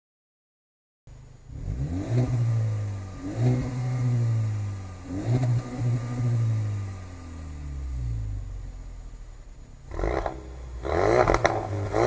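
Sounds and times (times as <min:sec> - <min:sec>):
car engine revving: 0:01.4 - 0:12.0.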